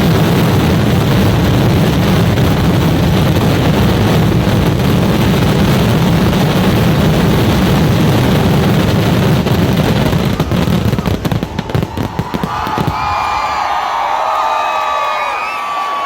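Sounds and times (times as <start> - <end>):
firecrackers exploding: 0.0 - 15.2.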